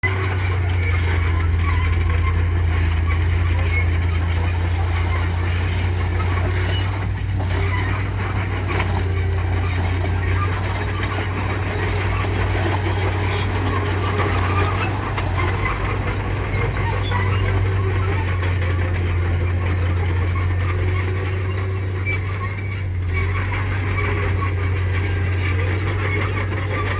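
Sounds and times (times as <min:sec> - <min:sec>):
diesel machinery engine drone: 0:00.0 - 0:26.9
high-pitched squeaks: 0:00.0 - 0:26.9.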